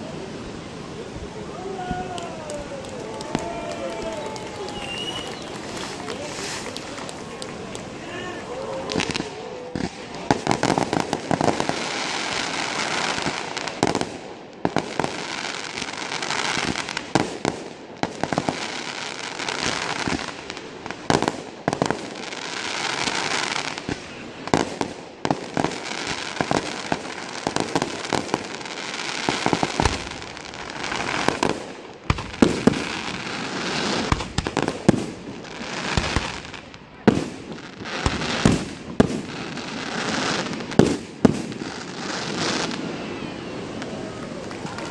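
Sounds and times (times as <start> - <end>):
fireworks bangs: 0.0 - 44.9
fireworks hissing: 0.0 - 44.9.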